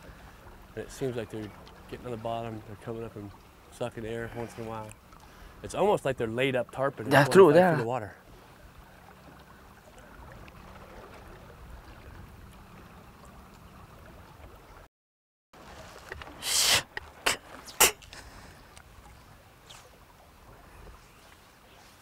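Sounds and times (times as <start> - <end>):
low steady boat background: 0.0 - 14.9, 15.6 - 22.0.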